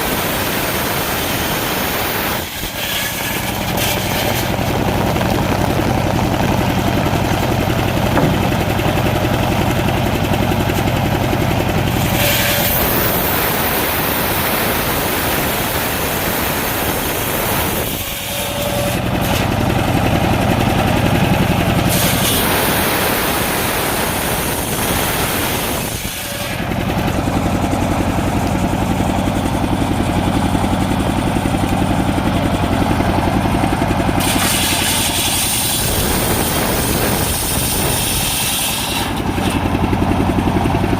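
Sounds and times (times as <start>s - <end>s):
saw blade cutting wood: 0.0s - 40.3s
saw engine running: 0.0s - 40.9s.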